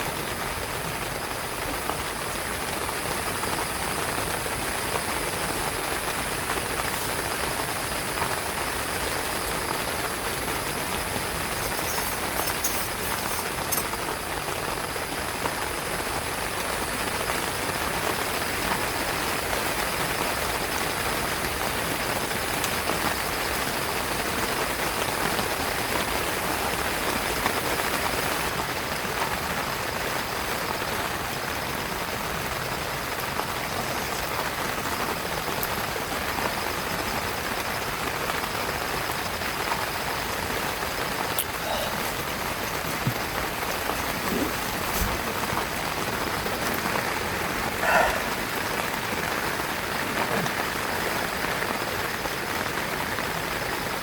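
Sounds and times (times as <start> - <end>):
heavy rain on a tent: 0.0 - 54.0.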